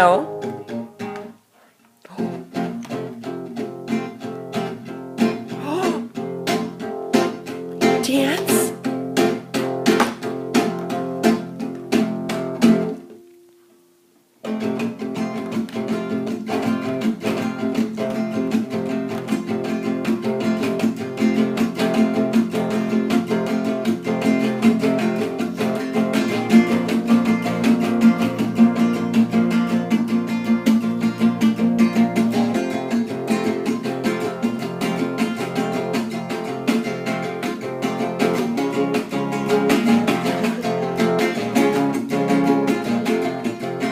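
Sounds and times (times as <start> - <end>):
acoustic guitar strumming: 0.0 - 1.4, 2.0 - 43.9.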